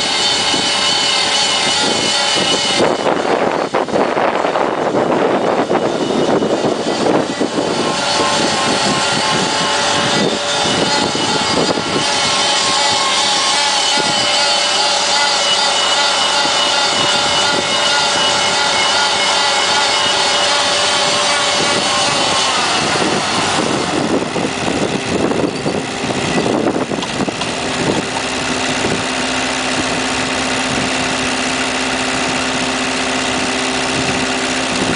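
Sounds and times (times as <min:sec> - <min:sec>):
mower engine running: 0:00.0 - 0:34.9.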